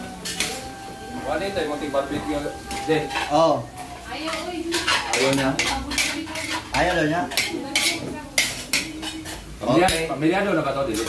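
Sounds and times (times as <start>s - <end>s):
metal spatula scraping a wok: 0.2s - 10.1s.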